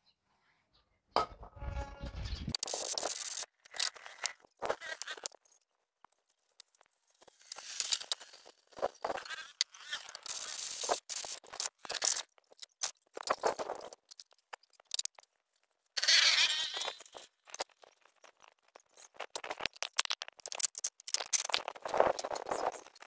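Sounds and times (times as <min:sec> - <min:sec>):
metal parts clicking and scraping: 0:02.5 - 0:05.6, 0:06.5 - 0:23.0.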